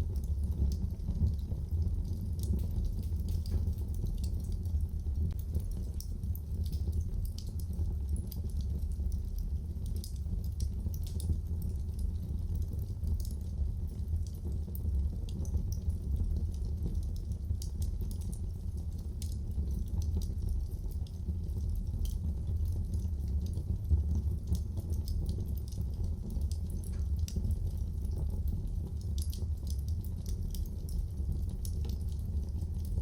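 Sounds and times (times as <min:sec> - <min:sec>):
fire popping and crackling: 0:00.0 - 0:33.0
low rumble of flames: 0:00.0 - 0:33.0.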